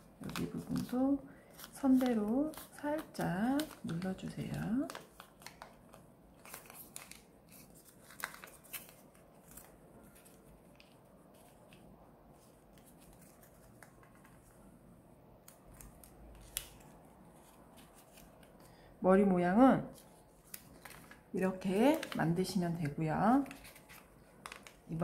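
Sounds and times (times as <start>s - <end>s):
paper being folded and creased: 0.0s - 14.7s, 15.4s - 18.7s, 19.9s - 25.0s.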